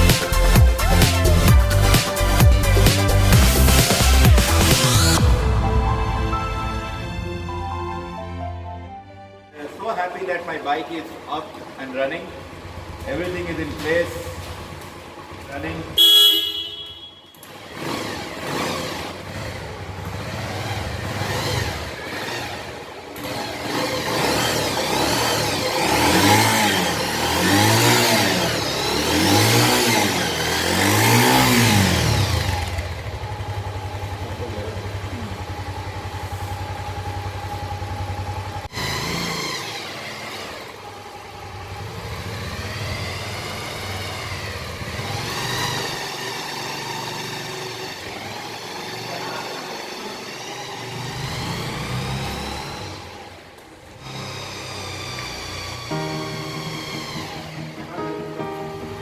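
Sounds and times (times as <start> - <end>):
motorcycle engine revving and idling: 9.8 - 59.0.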